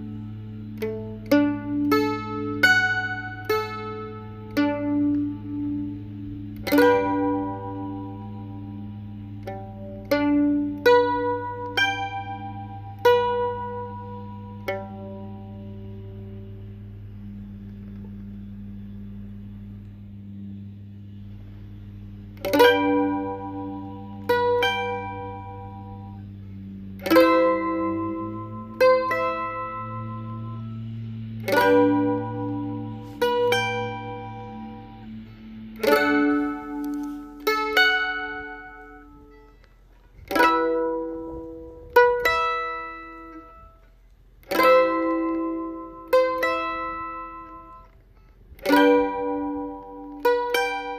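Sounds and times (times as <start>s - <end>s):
mandolin strumming: 0.0s - 50.9s
steady low hum: 0.0s - 50.9s.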